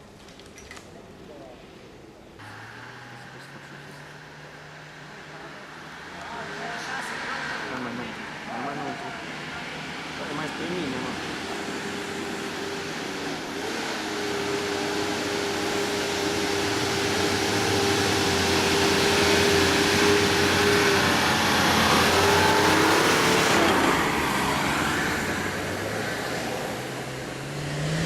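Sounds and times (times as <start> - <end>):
off-road vehicle engine working hard: 2.4 - 28.0.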